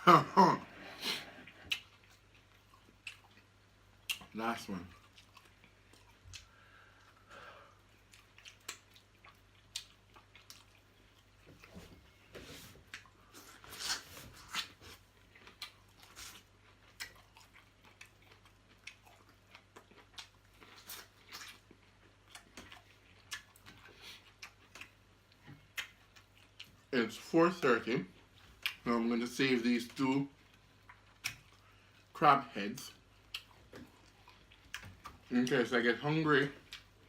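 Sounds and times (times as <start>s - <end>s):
person chewing: 0.3s - 12.2s, 12.8s - 27.3s, 28.1s - 28.9s, 29.9s - 32.2s, 32.8s - 37.0s.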